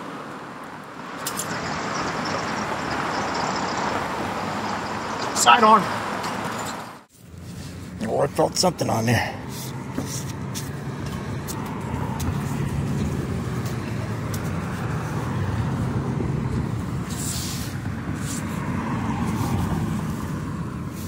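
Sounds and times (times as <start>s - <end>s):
traffic rumbling over bridge: 0.0s - 21.0s.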